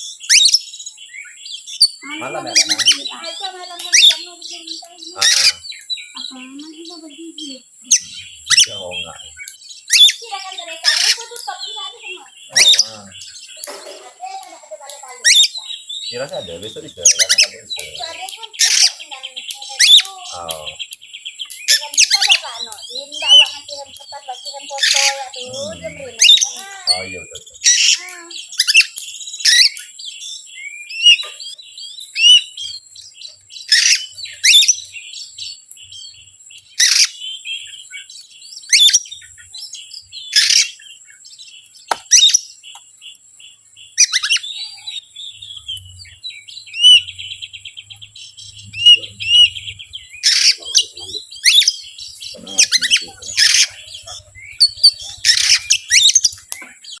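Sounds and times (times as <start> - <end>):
bird singing harsh notes and whistles: 0.0 - 57.0
rapid bird trill: 0.0 - 57.0.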